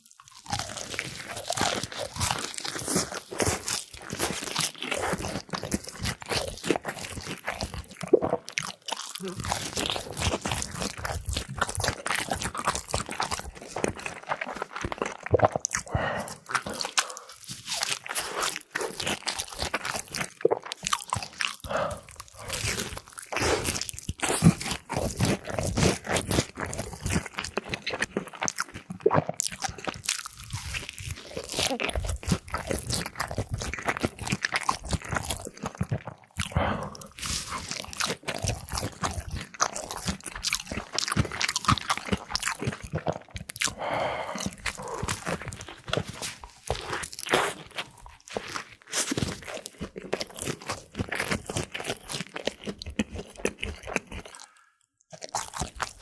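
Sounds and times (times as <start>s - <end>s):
crunching fried chicken: 0.0s - 56.0s.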